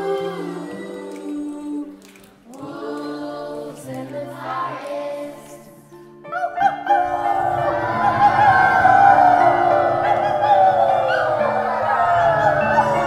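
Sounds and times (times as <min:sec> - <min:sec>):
women singing in harmony: 0:00.0 - 0:05.9, 0:07.0 - 0:13.0.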